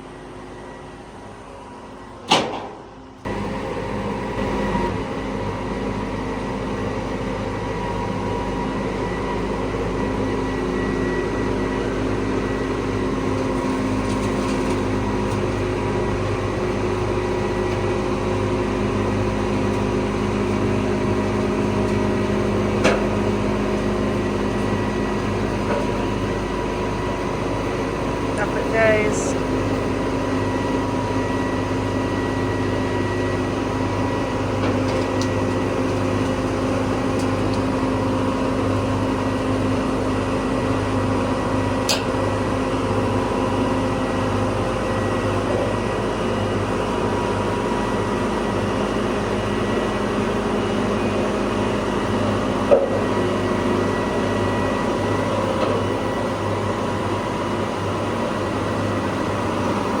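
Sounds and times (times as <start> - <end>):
diesel engine running steadily: 0.0 - 60.0.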